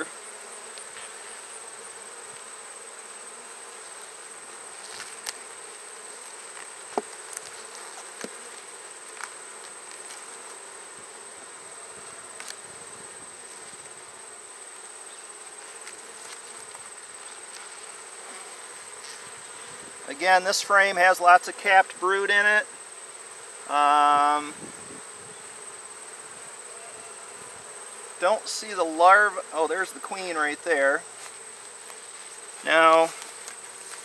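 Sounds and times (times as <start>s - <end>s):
honey bees buzzing: 0.0s - 34.0s.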